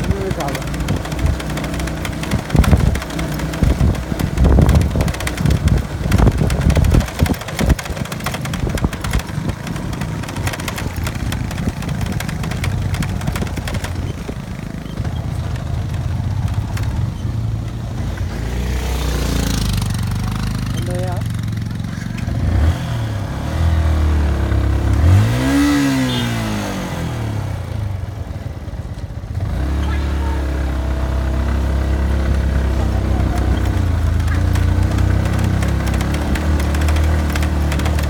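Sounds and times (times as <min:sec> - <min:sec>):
motorbike engine running: 0:00.0 - 0:38.0.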